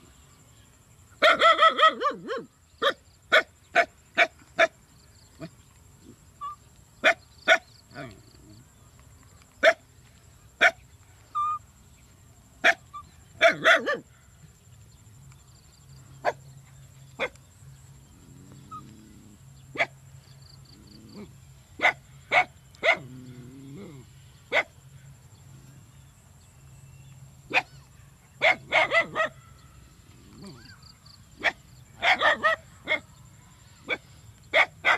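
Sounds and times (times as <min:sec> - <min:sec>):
faint steady high whine: 0:00.0 - 0:34.9.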